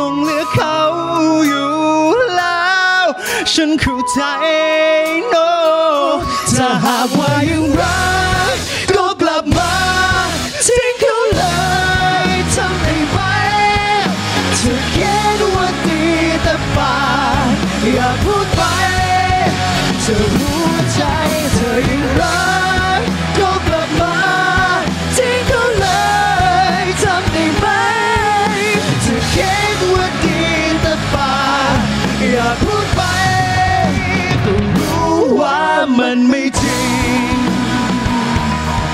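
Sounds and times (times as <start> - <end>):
drums: 0.0 - 38.9
people singing: 0.0 - 38.9
electric guitar: 3.0 - 38.9
bass guitar: 5.1 - 38.9.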